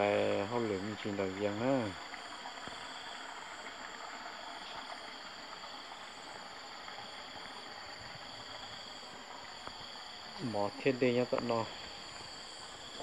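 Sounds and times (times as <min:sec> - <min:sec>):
insects buzzing: 0:00.0 - 0:13.0
outdoor background hiss: 0:00.0 - 0:13.0.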